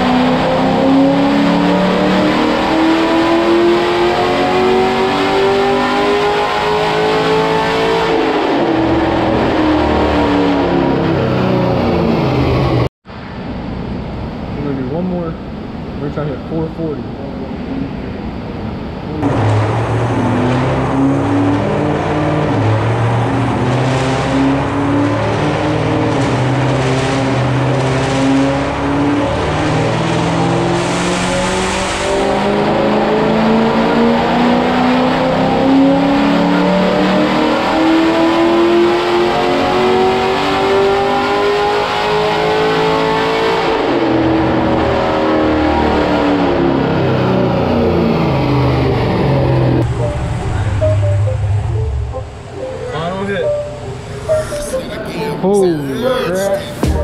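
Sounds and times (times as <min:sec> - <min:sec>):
car engine revving on dyno: 0:00.0 - 0:12.9, 0:17.5 - 0:54.7.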